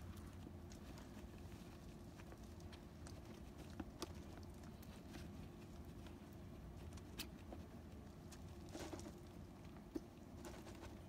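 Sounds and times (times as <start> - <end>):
faint motor hum: 0.0 - 11.0.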